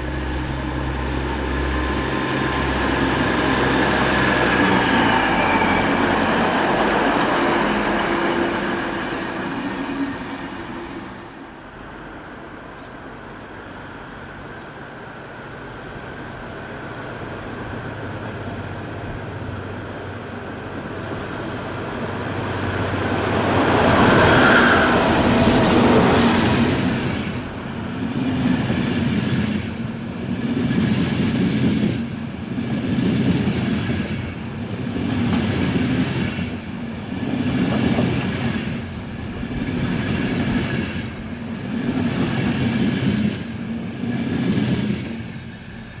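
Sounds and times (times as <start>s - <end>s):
diesel locomotives passing: 0.0s - 46.0s.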